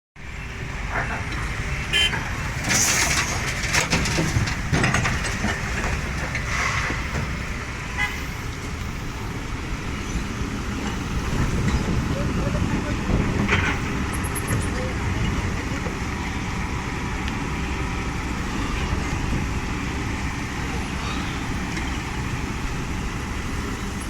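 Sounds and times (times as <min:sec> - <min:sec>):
diesel engine rumbling: 0:00.2 - 0:24.0.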